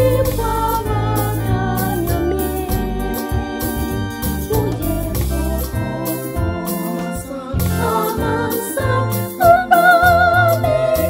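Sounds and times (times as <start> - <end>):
bass line: 0.0 - 11.0
keyboard organ chords: 0.0 - 11.0.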